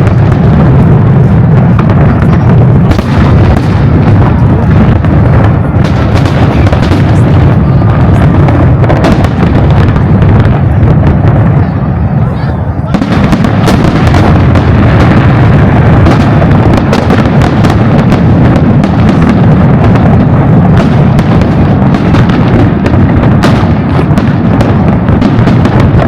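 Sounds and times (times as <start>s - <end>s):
fireworks bangs and crackles: 0.0s - 26.0s
rumble of shell bursts: 0.0s - 26.0s.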